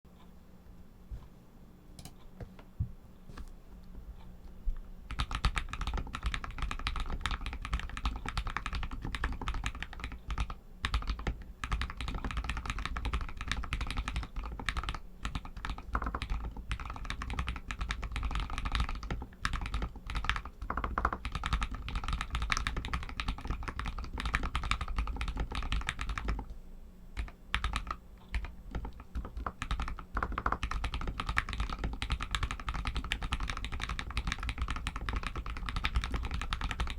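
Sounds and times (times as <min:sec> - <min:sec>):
mechanical keyboard typing: 0:05.1 - 0:26.5, 0:27.2 - 0:36.9.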